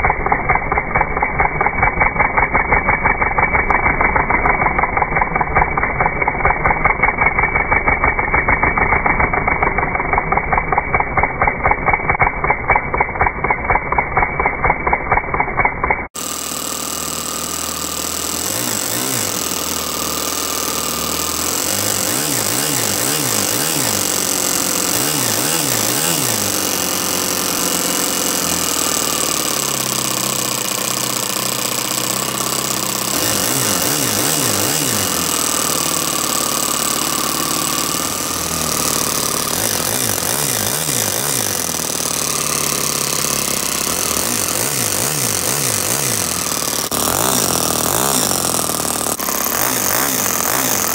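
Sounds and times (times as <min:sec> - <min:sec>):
model engine running fast: 0:00.0 - 0:50.9.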